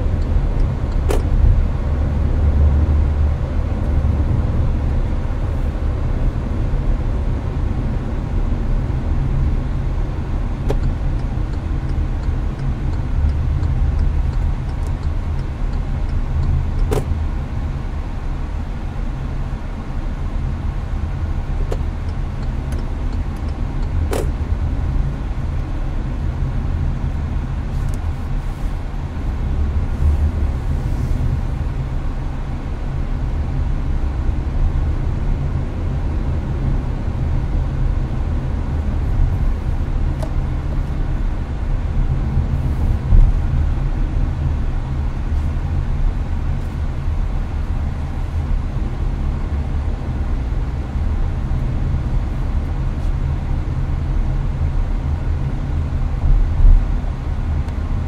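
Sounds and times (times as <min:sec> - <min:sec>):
road and engine rumble: 0:00.0 - 0:58.0.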